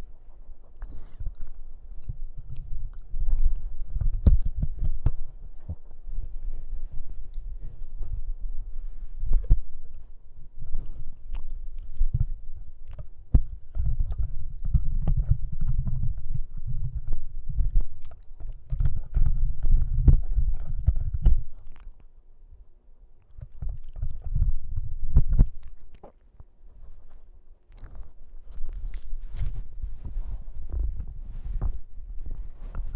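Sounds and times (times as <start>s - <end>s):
microphone handling rumble: 1.3s - 21.8s, 26.8s - 32.9s.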